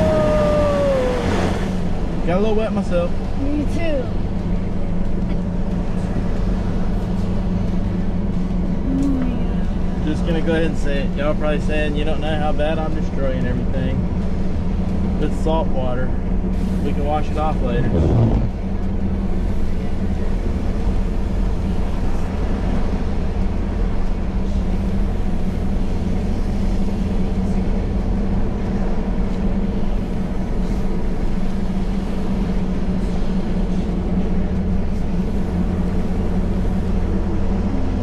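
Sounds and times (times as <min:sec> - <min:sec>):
engine and tyres drone: 0:00.0 - 0:38.0.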